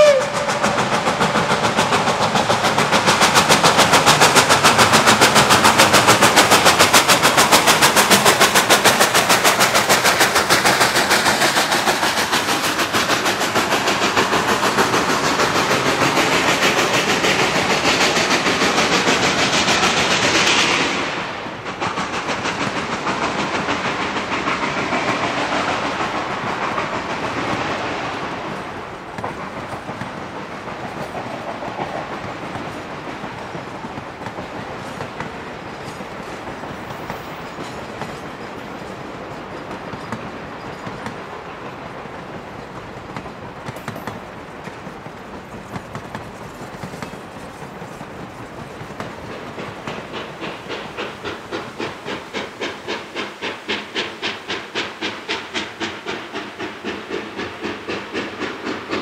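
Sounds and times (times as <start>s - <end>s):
train coaches rolling past: 0.0s - 59.0s
wheels clicking over rail joints: 0.0s - 59.0s.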